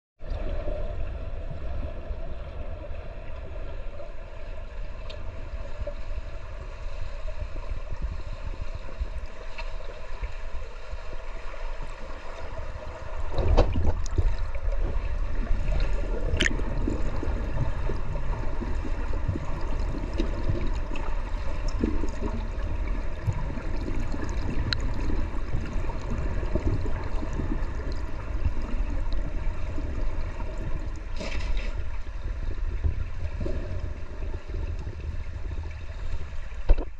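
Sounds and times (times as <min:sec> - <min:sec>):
underwater rumble of moving water: 0:00.2 - 0:36.9.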